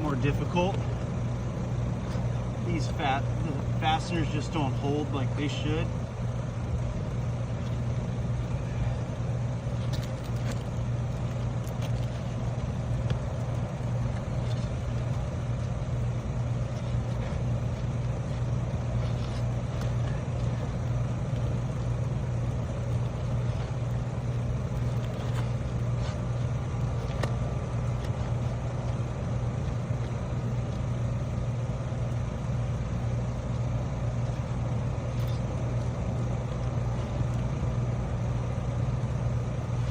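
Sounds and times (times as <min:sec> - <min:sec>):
low motor hum: 0:00.0 - 0:39.9.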